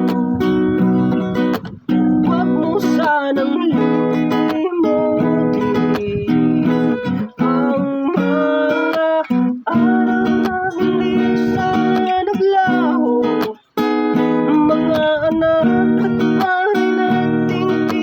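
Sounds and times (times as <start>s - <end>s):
acoustic guitar strummed and plucked: 0.0s - 18.0s.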